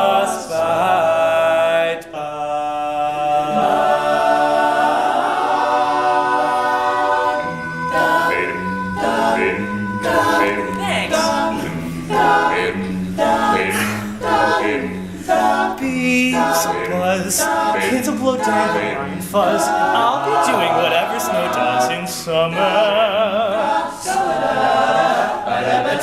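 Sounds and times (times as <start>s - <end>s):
male a cappella group singing: 0.0s - 26.0s.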